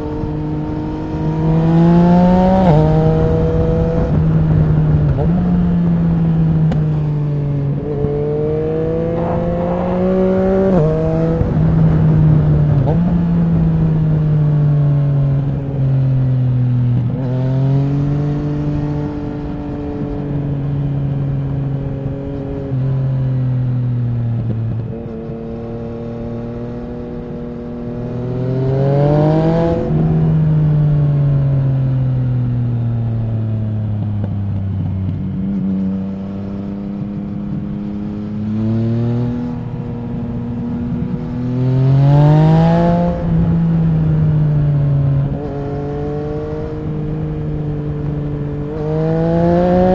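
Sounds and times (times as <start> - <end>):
motorcycle engine accelerating: 0.0 - 49.9
wind noise rumble: 0.0 - 49.9.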